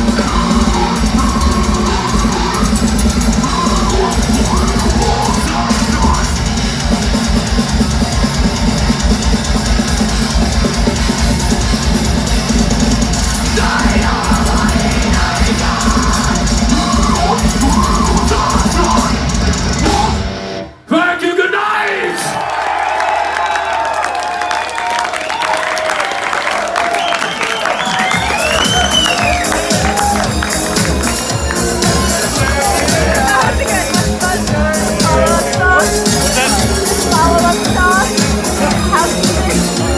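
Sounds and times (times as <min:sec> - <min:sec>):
fast drums: 0:00.0 - 0:20.4, 0:25.1 - 0:39.9
death metal band playing live: 0:00.0 - 0:20.7, 0:28.4 - 0:39.9
distorted guitars: 0:00.0 - 0:20.8, 0:28.2 - 0:39.9.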